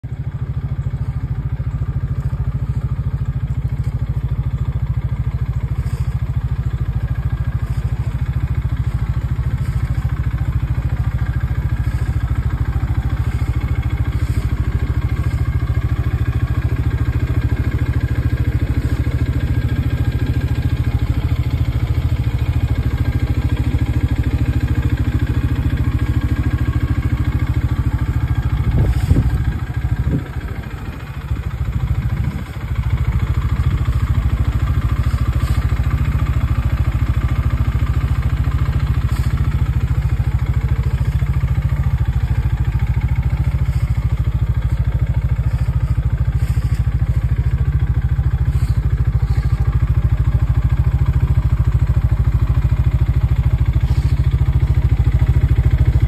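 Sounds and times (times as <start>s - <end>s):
utility vehicle engine idling: 0.0s - 56.0s.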